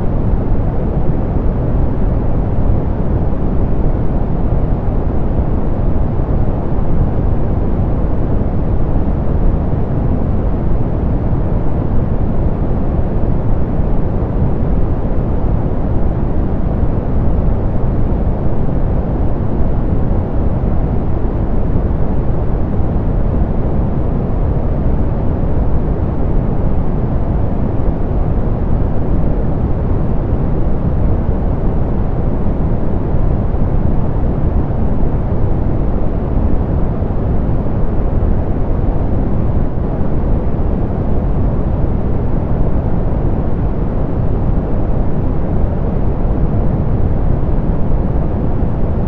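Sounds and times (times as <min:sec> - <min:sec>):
soft pink noise hiss: 0:00.0 - 0:49.0.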